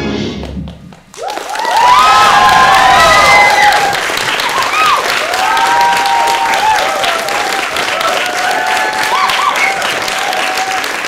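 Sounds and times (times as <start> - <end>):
audience applauding: 1.0 - 11.0.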